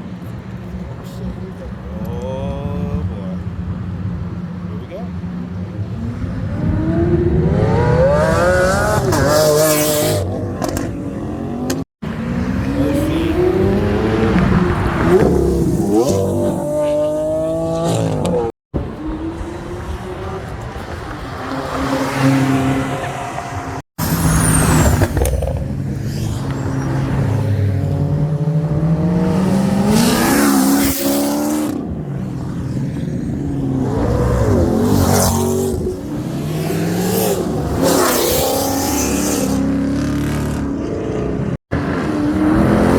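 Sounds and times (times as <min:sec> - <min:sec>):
cars revving and accelerating: 0:00.0 - 0:42.9.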